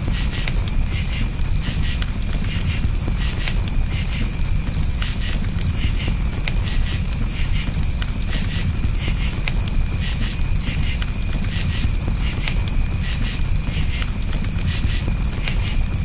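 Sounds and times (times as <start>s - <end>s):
campfire crackling and popping: 0.0s - 16.0s
crickets chirping: 0.0s - 16.0s.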